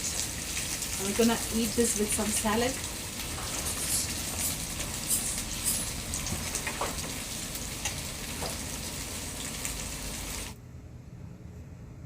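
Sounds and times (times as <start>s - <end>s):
chicken sizzling in a pan: 0.0s - 10.6s.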